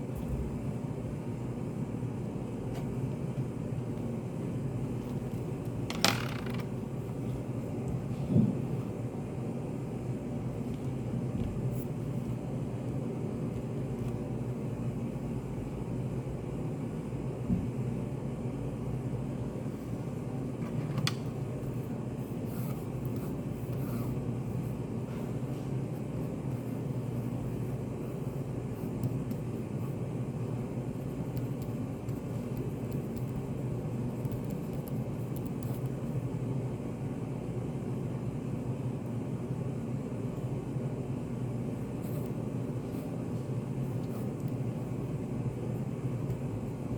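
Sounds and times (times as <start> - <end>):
low room hum: 0.0 - 46.9.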